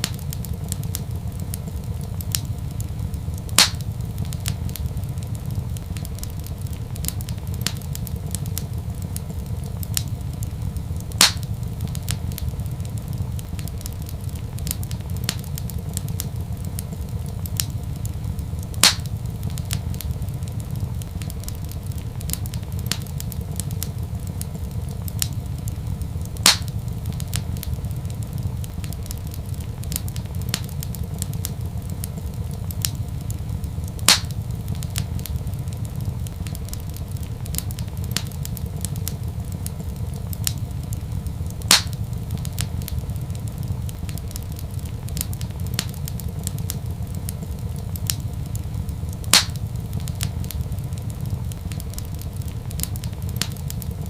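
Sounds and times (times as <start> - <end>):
fire popping sharply: 0.0 - 54.0
wood fire crackling: 0.0 - 54.0.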